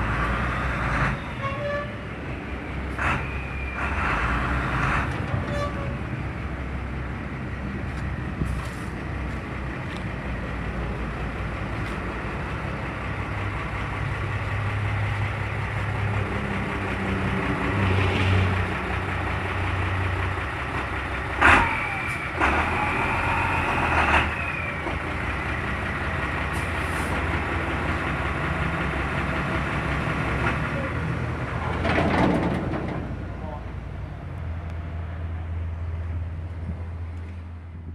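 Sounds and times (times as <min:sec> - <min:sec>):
diesel truck engine pulling away: 0:00.0 - 0:37.9.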